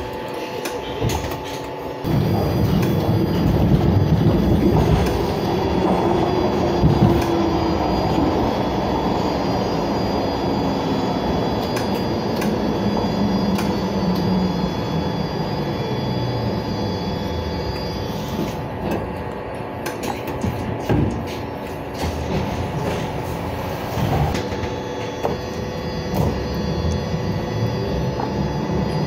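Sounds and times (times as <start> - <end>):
train wheel and rail rumble: 0.0 - 29.0
braking whine falling in pitch: 2.0 - 19.4, 22.8 - 29.0.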